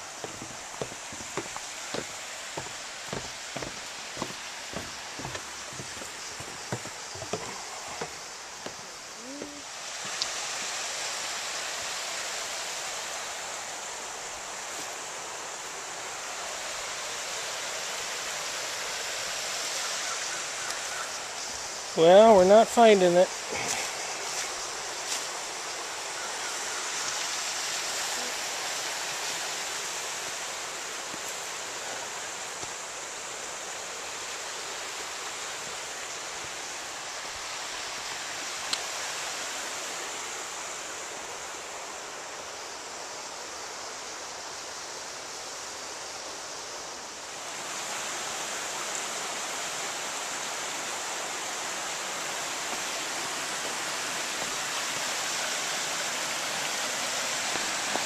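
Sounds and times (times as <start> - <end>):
creek water rushing: 0.0 - 58.0.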